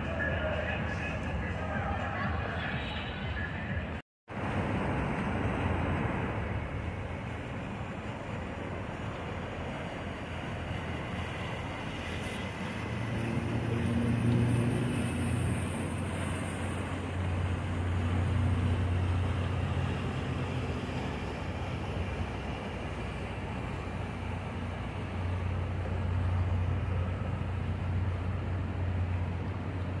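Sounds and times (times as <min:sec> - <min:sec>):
boat engines droning: 0:00.0 - 0:30.0
water wash: 0:04.3 - 0:30.0.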